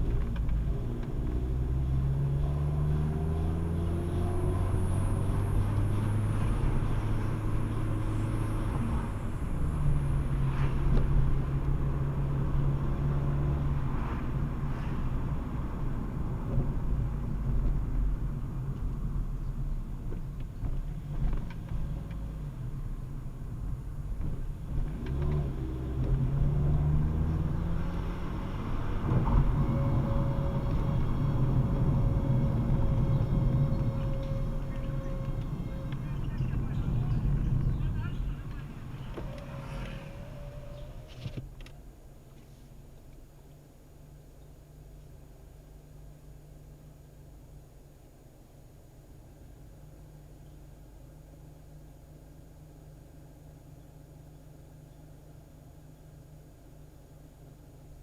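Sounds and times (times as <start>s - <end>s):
car engine drone: 0.0s - 58.0s.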